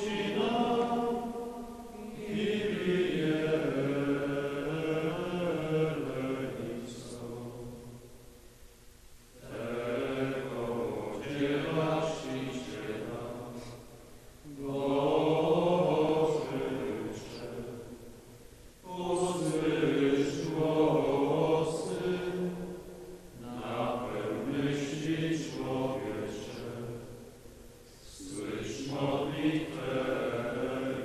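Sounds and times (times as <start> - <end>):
men chanting: 0.0 - 7.8, 9.4 - 13.8, 14.5 - 17.8, 18.9 - 22.7, 23.4 - 27.0, 28.1 - 31.0.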